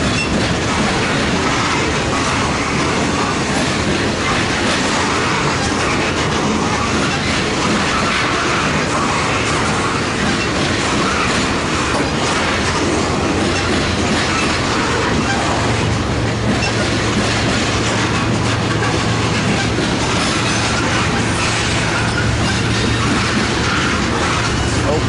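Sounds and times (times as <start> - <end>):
freight train rolling on rails: 0.0 - 25.0.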